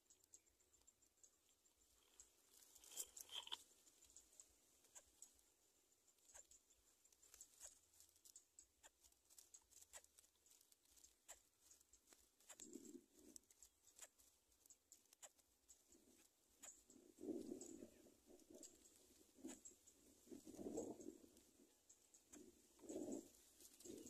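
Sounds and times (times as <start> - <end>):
faint clicks: 0.0 - 24.0.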